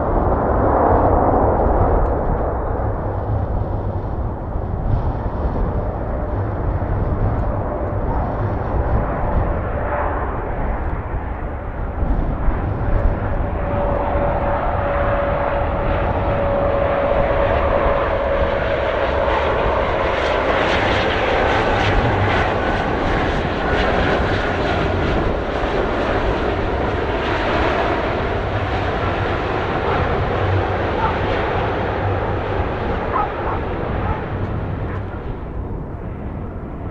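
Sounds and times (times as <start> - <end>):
wind rumble on microphone: 0.0 - 36.9.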